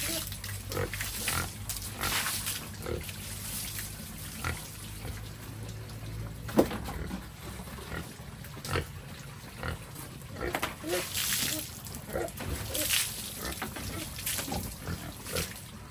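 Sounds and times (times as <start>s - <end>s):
pigs grunting: 0.0s - 3.5s, 4.1s - 5.6s, 6.8s - 15.9s
water splashing and dripping: 0.0s - 15.9s.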